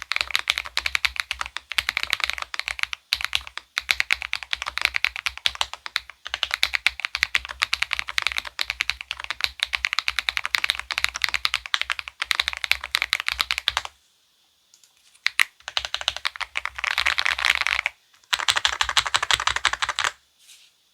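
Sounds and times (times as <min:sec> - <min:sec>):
thocky mechanical keyboard typing: 0:00.0 - 0:13.9, 0:15.2 - 0:20.2.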